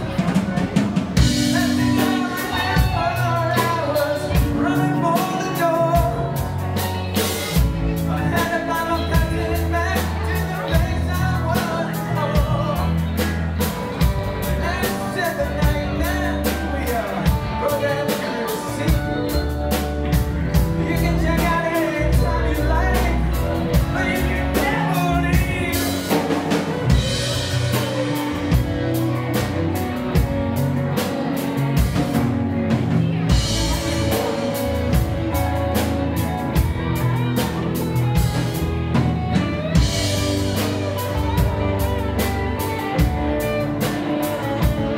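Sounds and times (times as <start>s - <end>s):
live rock band playing: 0.0s - 44.9s
man singing: 0.0s - 44.9s.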